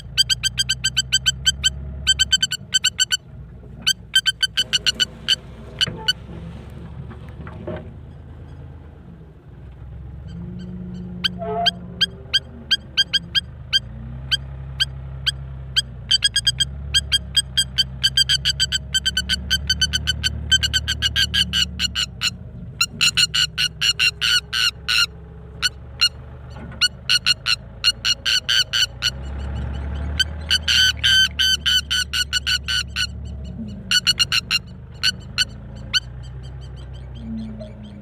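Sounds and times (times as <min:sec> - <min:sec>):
bird alarm calls: 0:00.0 - 0:06.2, 0:10.2 - 0:38.0.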